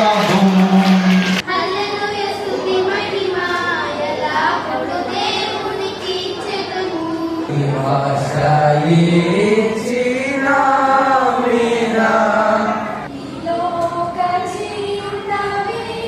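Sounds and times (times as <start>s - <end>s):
young voices singing unaccompanied: 1.2s - 16.0s.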